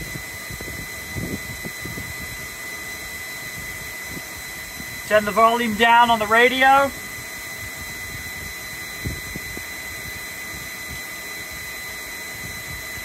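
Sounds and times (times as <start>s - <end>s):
cooling fan hiss: 0.0s - 13.0s
electrical whine: 0.0s - 13.0s.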